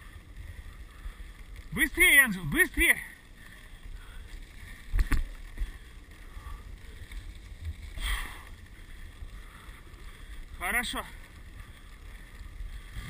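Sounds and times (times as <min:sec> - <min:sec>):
sled runners on snow: 0:00.0 - 0:13.0.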